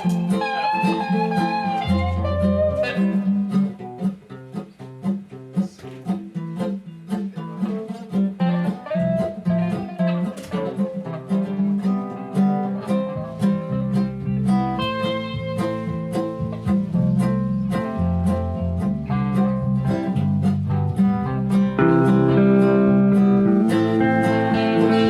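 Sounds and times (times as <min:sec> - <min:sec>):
bass line: 0:00.0 - 0:04.2, 0:08.4 - 0:25.0
plucked acoustic guitar: 0:00.0 - 0:25.0.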